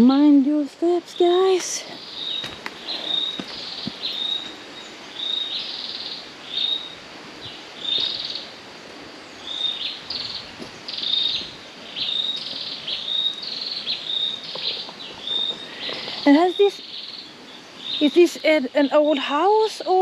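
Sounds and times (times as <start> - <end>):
bird calling with whistle and trill: 1.2 - 8.5, 9.2 - 19.3.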